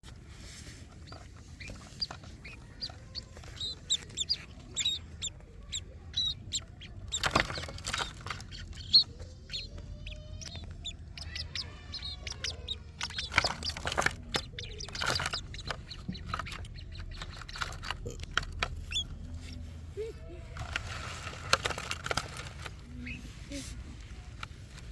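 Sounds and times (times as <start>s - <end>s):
rustling: 0.0s - 24.9s
sparrows chirping: 0.2s - 20.0s, 22.0s - 24.3s.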